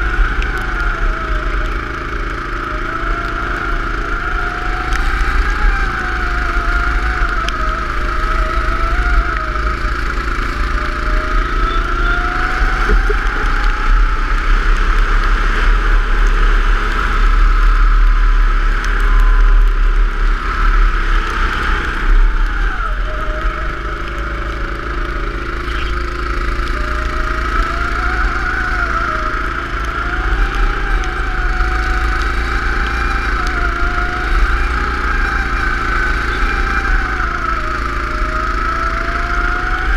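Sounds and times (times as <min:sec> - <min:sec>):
steady low rumble: 0:00.0 - 0:35.1
go-kart engine revving: 0:00.0 - 0:39.9.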